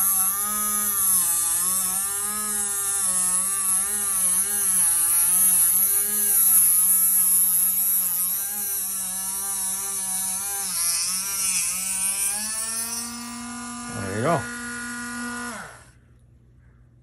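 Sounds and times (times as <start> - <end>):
small electric cutting tool motor: 0.0 - 16.0.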